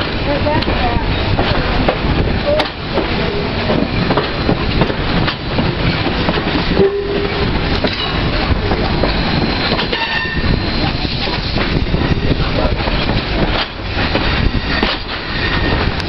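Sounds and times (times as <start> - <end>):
train wheels clacking over rail joints: 0.0 - 16.0.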